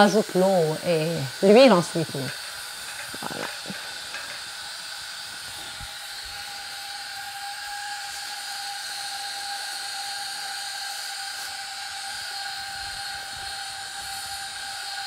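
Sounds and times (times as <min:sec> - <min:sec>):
pressure cooker hissing steam: 0:00.0 - 0:15.0.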